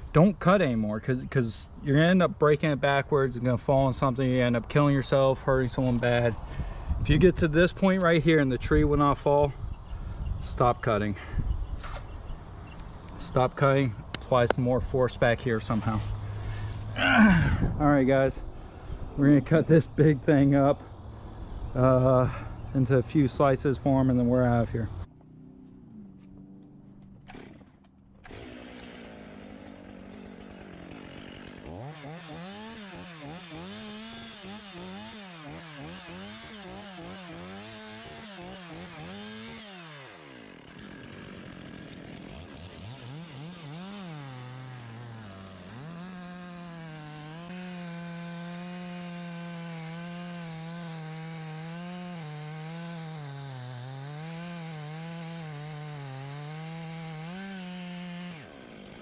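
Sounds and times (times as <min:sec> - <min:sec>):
chainsaw cutting log: 0:03.4 - 0:18.6, 0:19.2 - 0:59.0.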